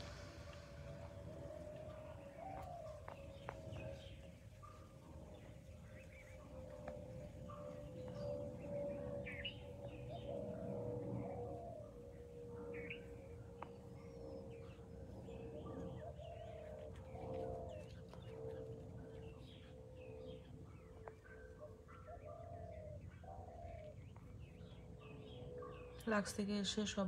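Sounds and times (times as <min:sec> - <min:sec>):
steady hum: 0:00.0 - 0:21.9
birds chirping and calling: 0:00.0 - 0:27.0.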